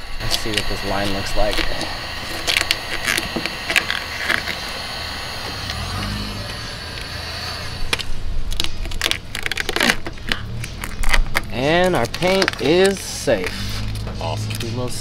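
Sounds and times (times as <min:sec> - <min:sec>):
protection film peeling off: 0:00.2 - 0:04.6, 0:06.4 - 0:15.0.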